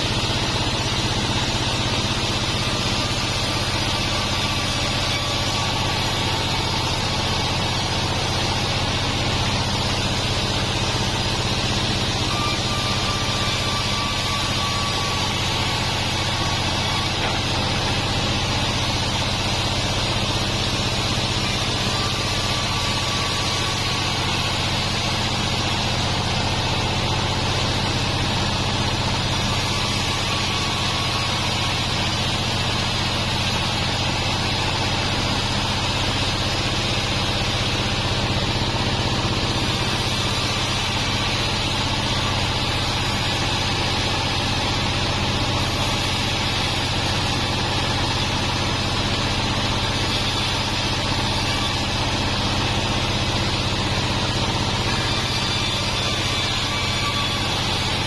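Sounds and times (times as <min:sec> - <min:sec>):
band saw running: 0:00.0 - 0:58.0.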